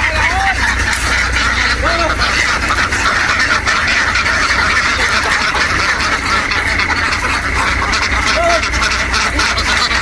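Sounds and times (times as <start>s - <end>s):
flock of ducks quacking: 0.0s - 10.0s
low steady rumble: 0.0s - 10.0s.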